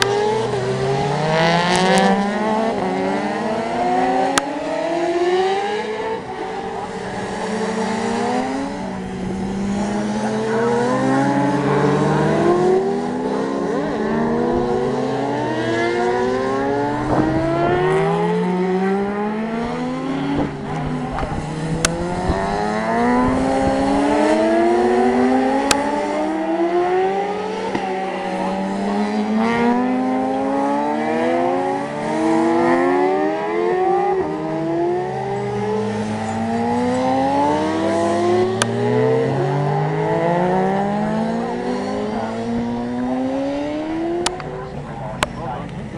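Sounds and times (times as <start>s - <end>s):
racing motorcycles accelerating: 0.0s - 45.9s.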